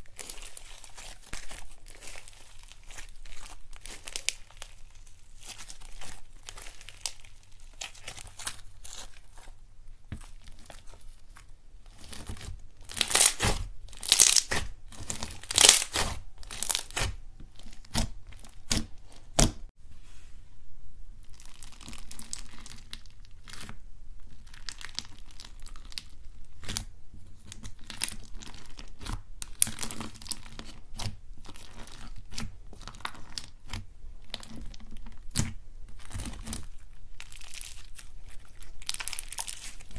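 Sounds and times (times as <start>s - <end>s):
slime crackling and popping: 0.0s - 19.6s, 21.3s - 39.9s.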